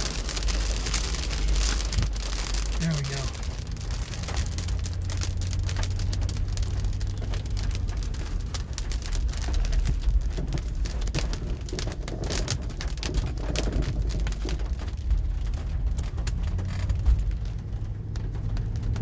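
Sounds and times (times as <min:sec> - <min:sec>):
car rumbling on road: 0:00.0 - 0:19.0
raindrops hitting car windshield: 0:00.0 - 0:19.0.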